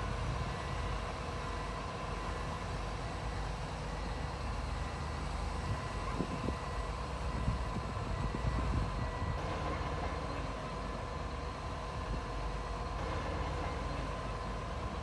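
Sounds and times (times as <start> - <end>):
bulldozer engine rumble: 0.0 - 15.0.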